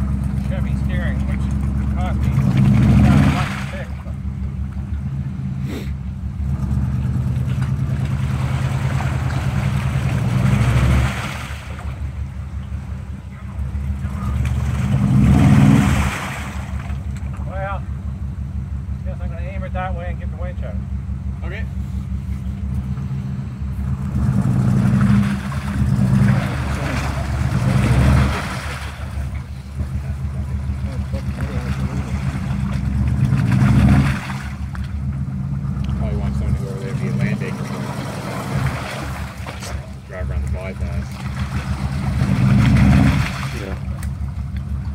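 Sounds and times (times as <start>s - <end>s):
truck engine revving under load: 0.0s - 44.9s
tyres churning in mud and water: 0.0s - 44.9s.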